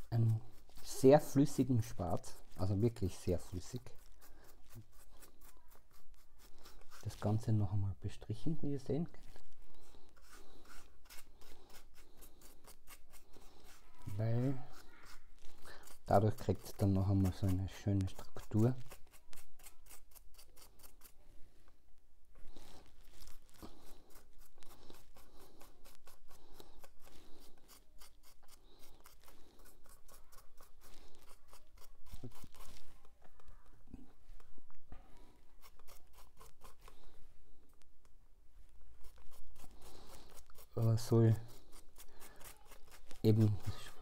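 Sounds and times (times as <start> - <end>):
paintbrush scratchy strokes: 0.0 - 21.8, 22.4 - 37.8, 38.6 - 44.0.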